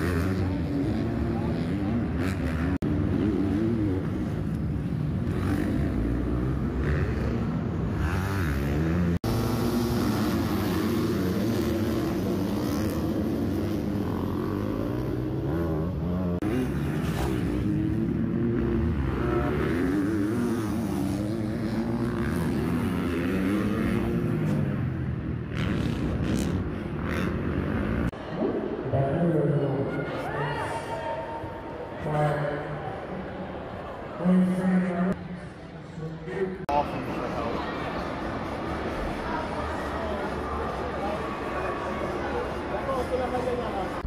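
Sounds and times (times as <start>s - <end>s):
dirt bike engines revving: 0.0s - 28.8s, 36.3s - 44.0s.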